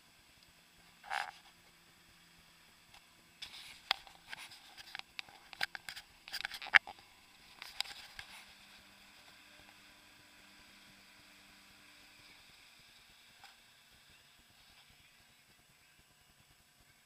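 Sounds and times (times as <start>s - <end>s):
faint low engine hum: 0.0s - 17.0s.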